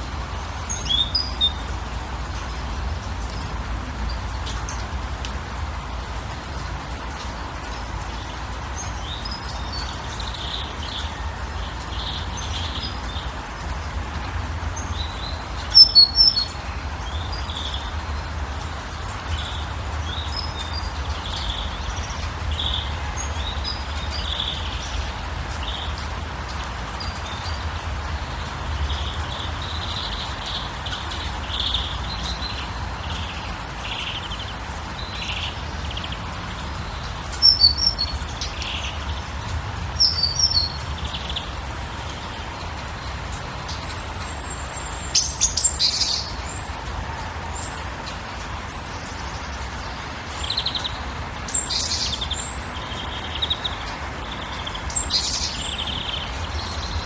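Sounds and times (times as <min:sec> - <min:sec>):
background hiss and rumble: 0:00.0 - 0:57.0
small birds chirping: 0:00.0 - 0:57.0.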